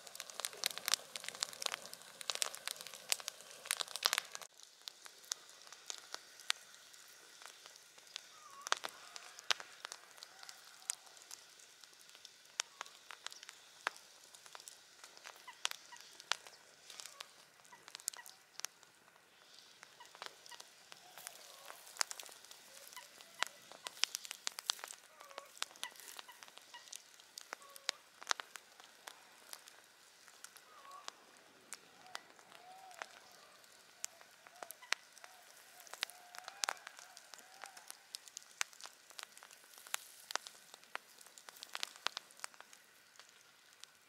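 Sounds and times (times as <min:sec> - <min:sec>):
campfire crackling and popping: 0:00.0 - 0:44.0
soft steady hiss: 0:00.0 - 0:44.0.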